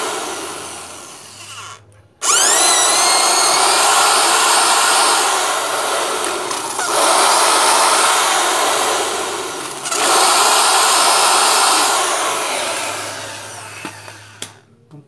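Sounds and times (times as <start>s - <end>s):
electric drill boring wood: 0.0s - 14.7s.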